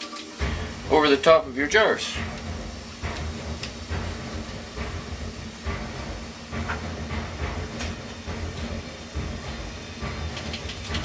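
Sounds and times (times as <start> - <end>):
canner hissing: 0.0 - 11.0.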